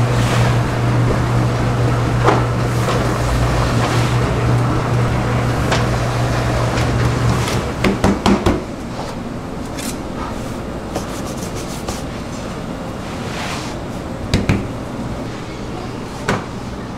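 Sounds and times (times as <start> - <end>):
dough sheeter humming: 0.0 - 16.9.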